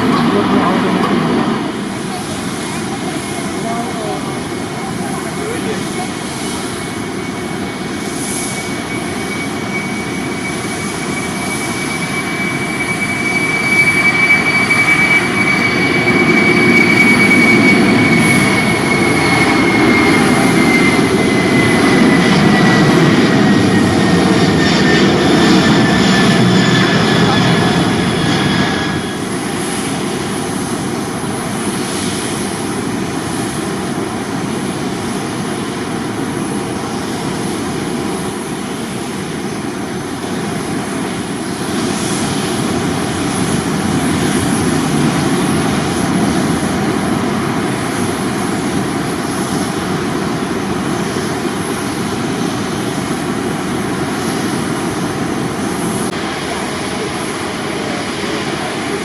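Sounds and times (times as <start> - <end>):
jet engines roaring: 0.0 - 59.0
steady whining tones: 0.0 - 59.0.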